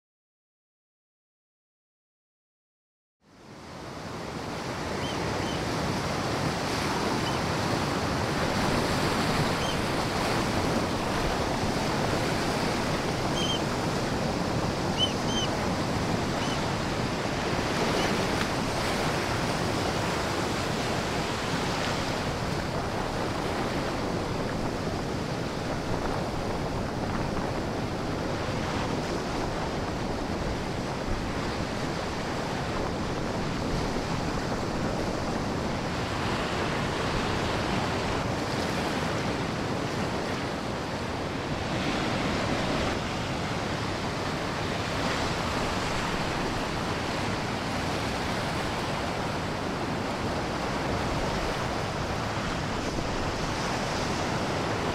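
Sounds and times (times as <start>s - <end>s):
waves breaking: 3.9s - 54.9s
storm wind: 5.8s - 54.9s.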